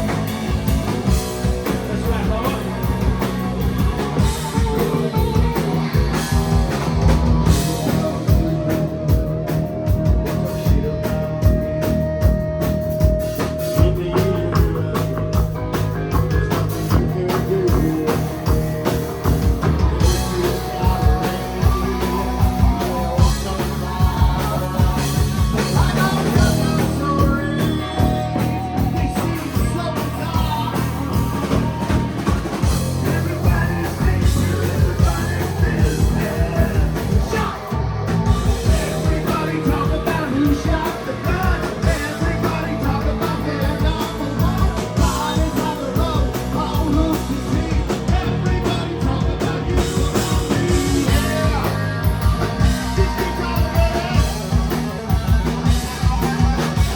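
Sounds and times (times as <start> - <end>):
person singing: 0.0 - 12.6, 13.3 - 56.9
drum kit: 0.0 - 56.9
electric guitar: 0.0 - 56.9.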